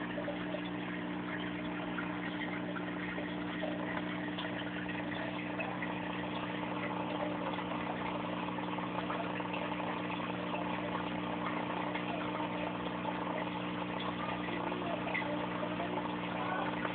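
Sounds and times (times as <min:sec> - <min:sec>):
aquarium pump humming underwater: 0:00.0 - 0:16.9.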